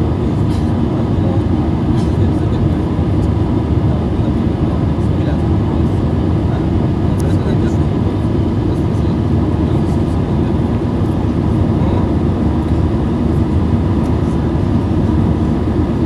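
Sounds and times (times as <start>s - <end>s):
jet engine and air roar: 0.0s - 16.0s.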